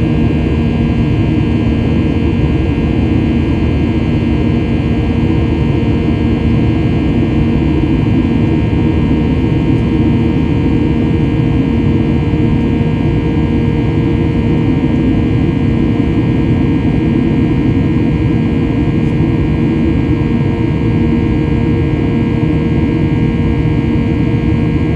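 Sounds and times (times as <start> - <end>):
jet engines rumbling in cabin: 0.0 - 24.9
steady humming tones: 0.0 - 24.9.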